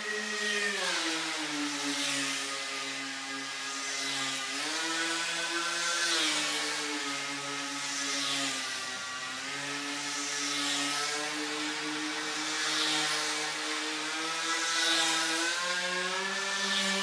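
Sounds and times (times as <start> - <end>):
model airplane motor whirring: 0.0 - 17.0.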